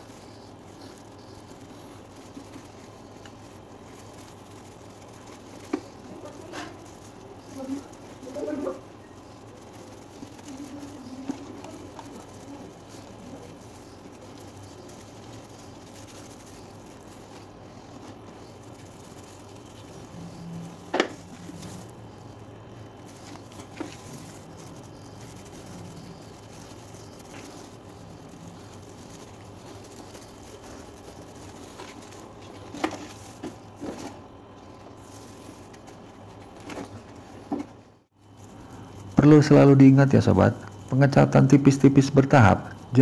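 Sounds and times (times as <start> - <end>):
background hiss: 0.0 - 43.0.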